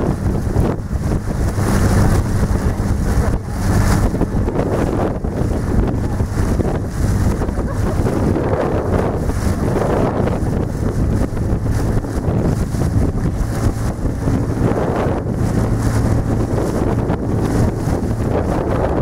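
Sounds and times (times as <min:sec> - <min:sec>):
outboard motor humming: 0:00.0 - 0:19.0
wind buffeting microphone: 0:00.0 - 0:19.0.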